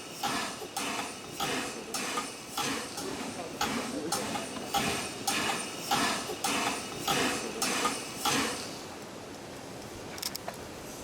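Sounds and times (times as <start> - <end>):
steam locomotive chuffing with hiss: 0.0 - 9.0.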